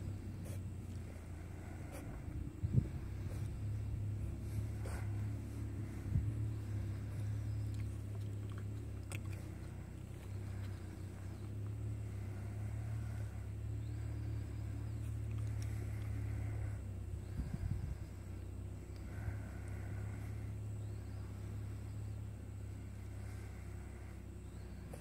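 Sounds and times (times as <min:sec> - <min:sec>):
low motor rumble: 0:00.0 - 0:25.0.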